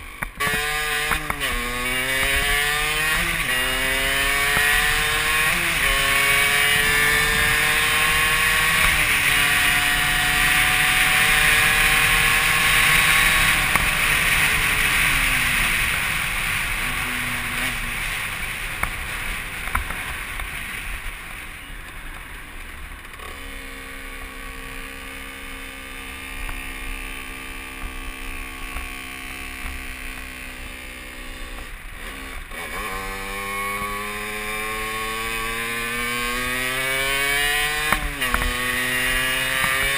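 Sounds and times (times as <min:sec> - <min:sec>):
dirt bike engine revving: 0:00.1 - 0:20.6, 0:23.1 - 0:39.9.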